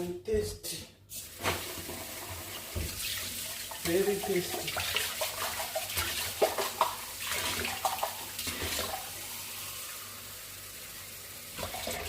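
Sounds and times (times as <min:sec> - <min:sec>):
water running from a tap: 0:01.2 - 0:12.0.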